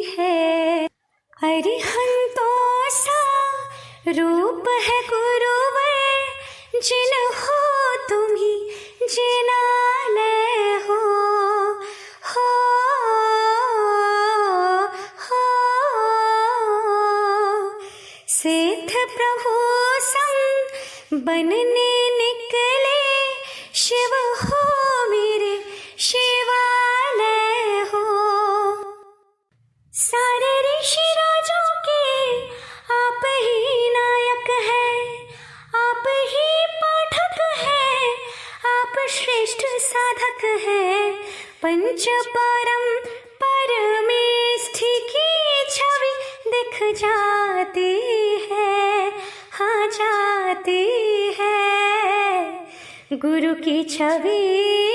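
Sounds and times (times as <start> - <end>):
woman singing unaccompanied: 0.0 - 29.2, 29.9 - 54.9.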